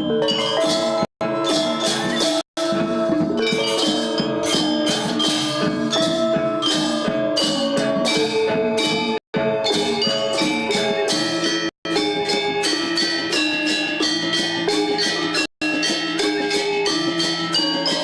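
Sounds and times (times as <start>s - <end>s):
drums: 0.0s - 18.0s
metallophones ringing: 0.0s - 18.0s.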